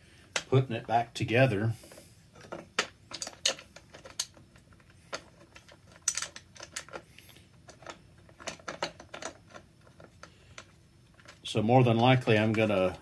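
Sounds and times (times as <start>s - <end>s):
small parts clicking and tapping: 0.2s - 0.6s, 1.8s - 13.0s.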